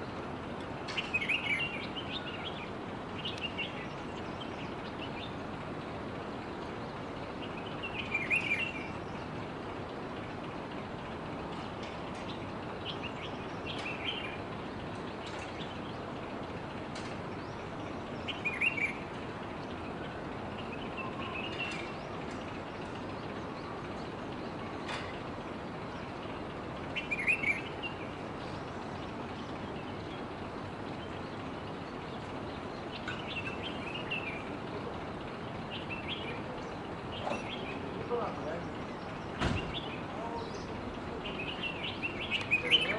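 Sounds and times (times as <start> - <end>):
birds chirping: 0.0 - 42.9
steady background hiss: 0.0 - 42.9.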